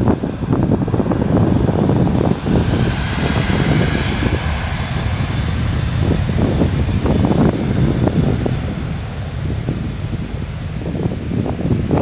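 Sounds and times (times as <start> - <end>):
high engine whine: 0.0 - 12.0
jet engine rumble: 0.0 - 12.0
wind buffeting microphone: 0.0 - 12.0.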